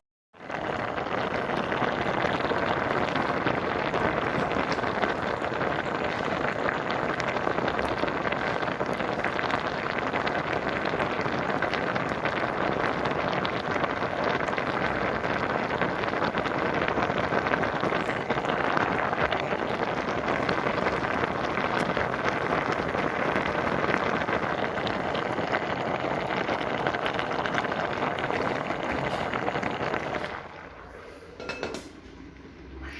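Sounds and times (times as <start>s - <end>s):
water boiling hard in pot: 0.4s - 32.9s.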